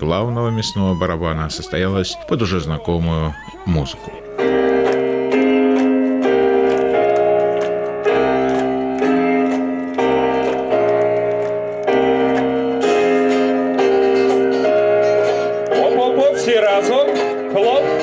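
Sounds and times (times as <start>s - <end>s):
keyboard playing chords: 2.5s - 18.0s.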